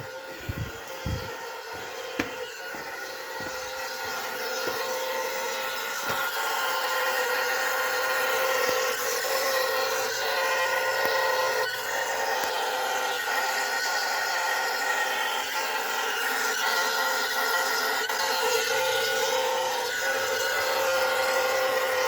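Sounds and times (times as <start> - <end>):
vehicle electrical whine: 0.0 - 22.0.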